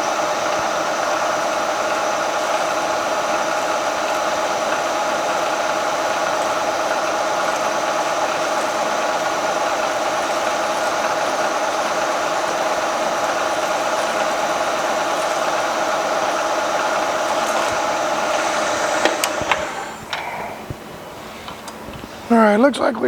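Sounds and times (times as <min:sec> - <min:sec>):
milling machine whining: 0:00.0 - 0:22.3.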